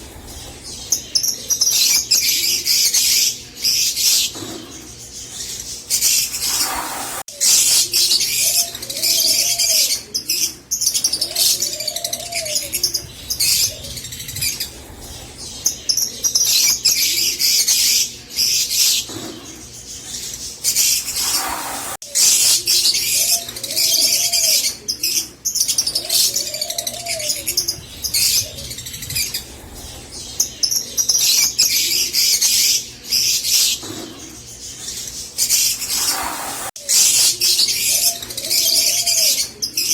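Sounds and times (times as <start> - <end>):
lovebirds chirping and squeaking: 0.0 - 39.9.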